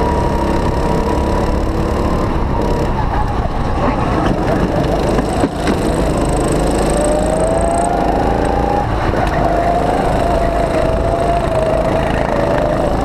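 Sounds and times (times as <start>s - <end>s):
go-kart engine revving: 0.0s - 13.0s.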